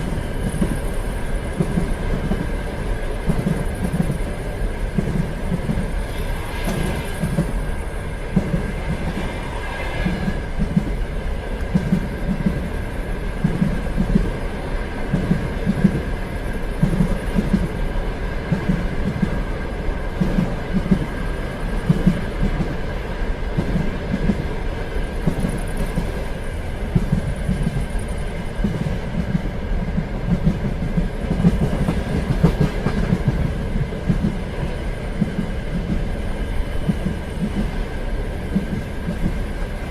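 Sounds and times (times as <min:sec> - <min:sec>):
train rumble: 0:00.0 - 0:39.9
train wheels clicking over rail joints: 0:00.0 - 0:39.9.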